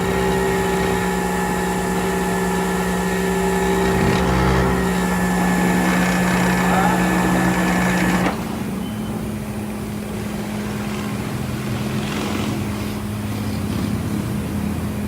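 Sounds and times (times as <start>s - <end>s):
motor vehicle droning: 0.0s - 15.0s.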